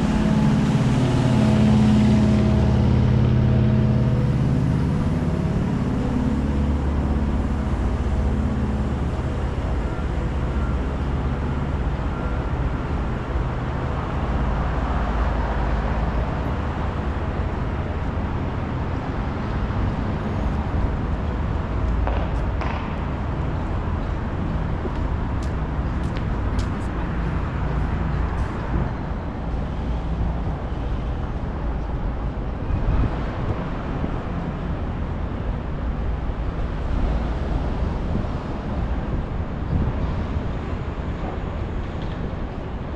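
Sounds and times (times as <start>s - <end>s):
passing vehicles rumble: 0.0s - 42.9s.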